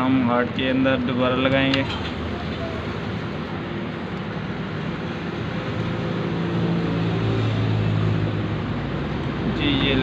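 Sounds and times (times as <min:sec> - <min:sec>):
engine-like hum: 0:00.2 - 0:10.0.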